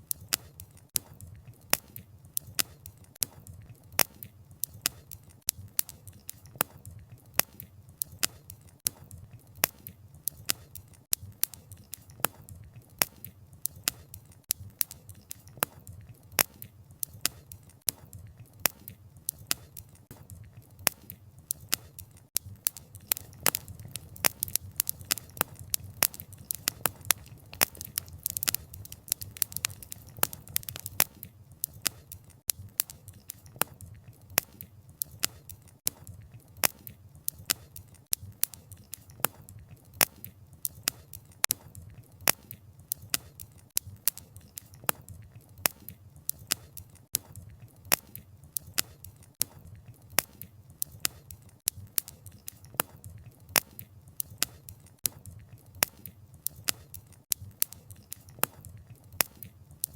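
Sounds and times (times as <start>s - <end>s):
burning logs snapping and popping: 0.0s - 59.9s
wood fire crackling: 0.0s - 59.9s.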